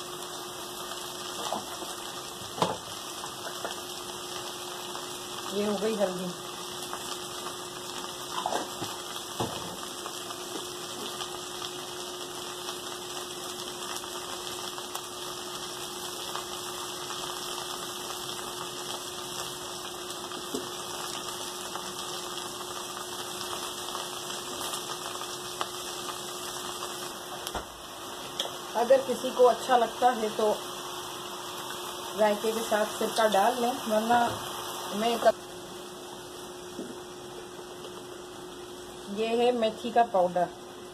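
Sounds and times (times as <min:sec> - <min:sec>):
food sizzling in a pot: 0:00.0 - 0:40.9.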